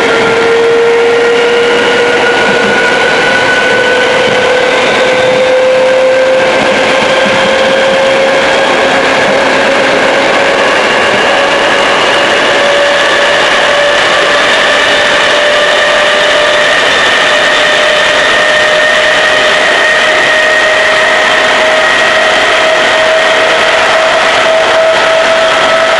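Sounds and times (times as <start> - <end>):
traction drive whine: 0.0 - 25.9
train running noise: 0.0 - 25.9.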